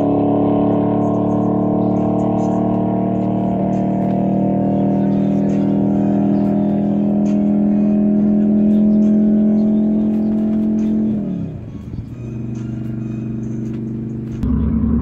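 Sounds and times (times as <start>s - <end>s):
race car engine running: 0.0s - 15.0s.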